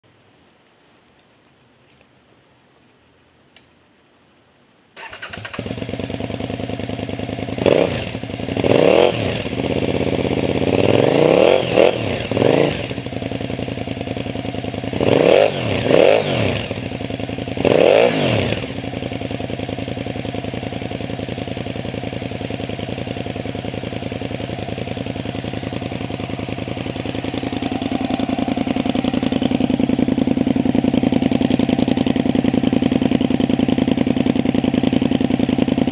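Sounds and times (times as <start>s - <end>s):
motorcycle engine idling: 5.0s - 35.9s
motorcycle engine starting and revving: 5.0s - 35.9s.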